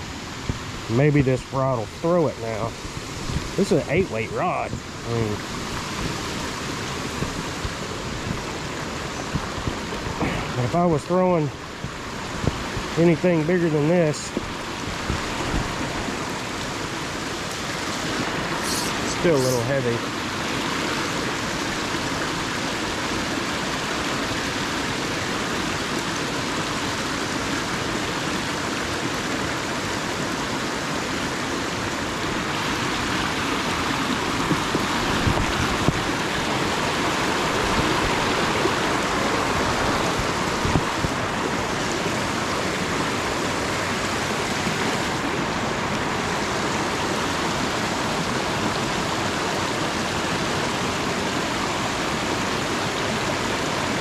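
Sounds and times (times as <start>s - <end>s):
river water rushing over rocks: 0.0s - 54.0s.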